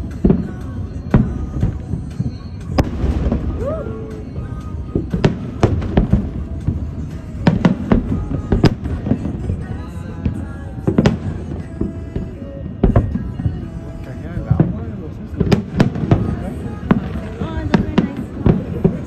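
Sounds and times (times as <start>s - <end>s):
background music: 0.0s - 19.0s
fireworks bangs and cracks: 0.0s - 19.0s.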